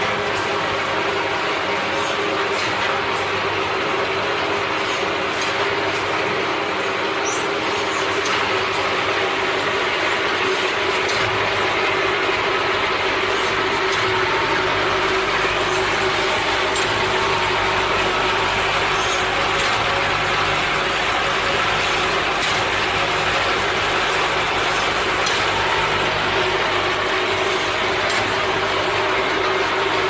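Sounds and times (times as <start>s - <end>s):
machine hum: 0.0s - 30.0s
woodworking machine clatter: 0.0s - 30.0s.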